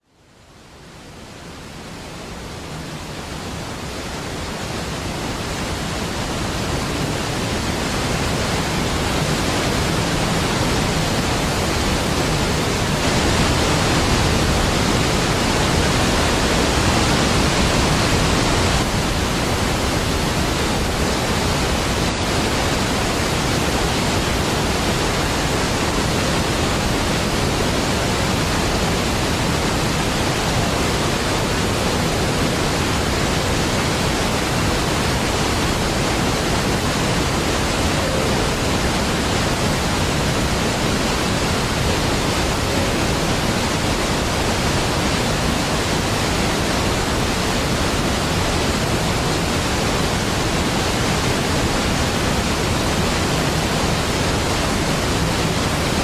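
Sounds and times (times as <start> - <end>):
large waterfall rushing: 0.0 - 56.0.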